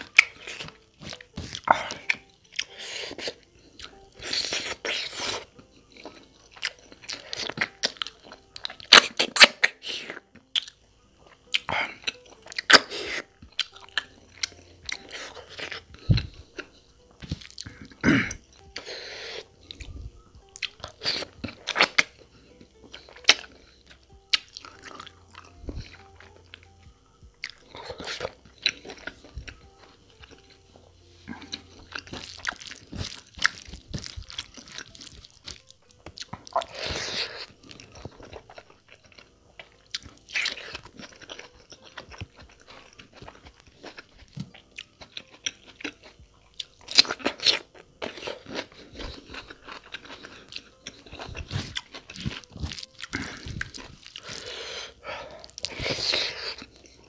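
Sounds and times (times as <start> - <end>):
man chewing and crunching food: 0.0 - 57.0.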